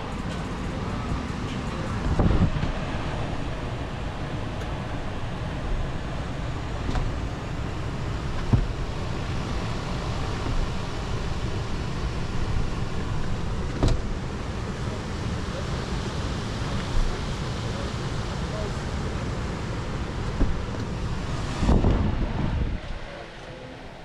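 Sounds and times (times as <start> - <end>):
car engine rumble from inside: 0.0 - 24.0.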